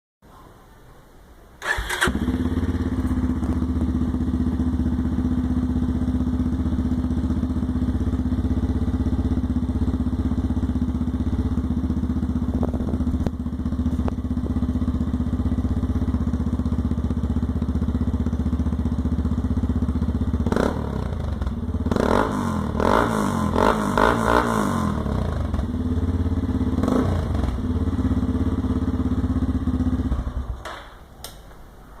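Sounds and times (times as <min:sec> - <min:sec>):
motorcycle engine idling and revving: 0:01.6 - 0:31.0.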